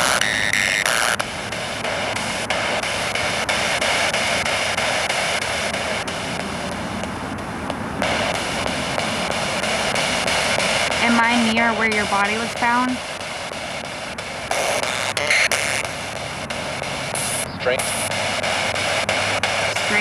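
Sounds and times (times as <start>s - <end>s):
channel switching clicks: 0.0s - 20.0s
radio static hiss: 0.0s - 20.0s.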